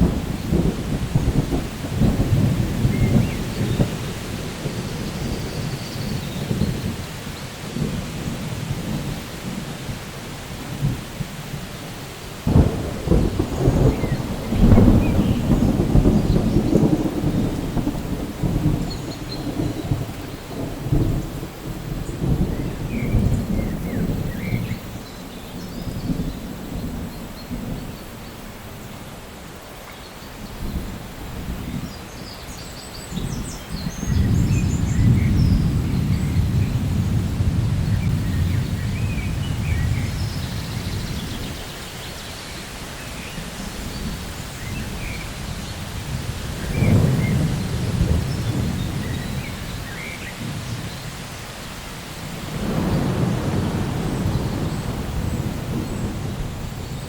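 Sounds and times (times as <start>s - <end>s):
thunder rumbling: 0.0s - 29.0s, 30.4s - 57.0s
steady rain: 0.0s - 57.0s.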